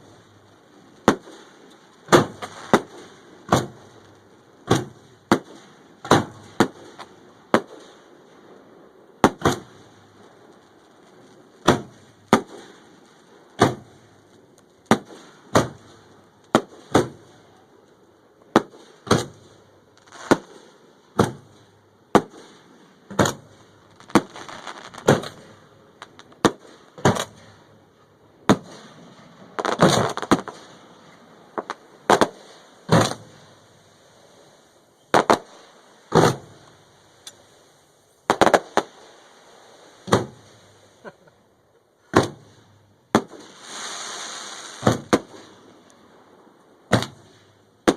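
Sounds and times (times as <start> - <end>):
fireworks bangs: 0.0 - 17.7, 18.5 - 47.9
fireworks crackling: 0.0 - 47.9.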